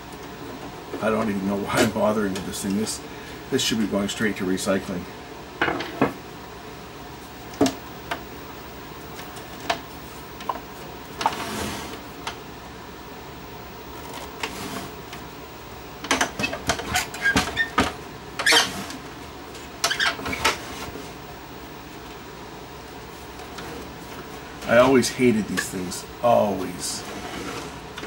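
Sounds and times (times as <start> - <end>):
room noise: 0.0 - 28.0.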